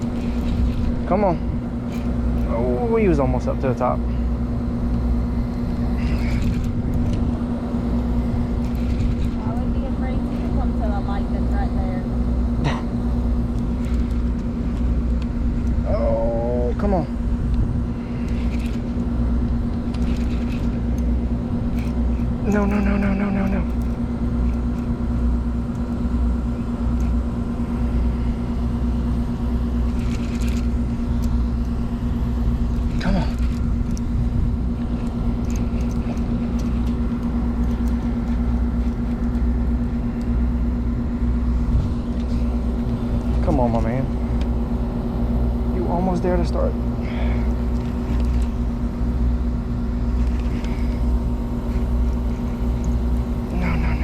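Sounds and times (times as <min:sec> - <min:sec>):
low mechanical rumble: 0:00.0 - 0:54.0
machine hum: 0:00.0 - 0:54.0.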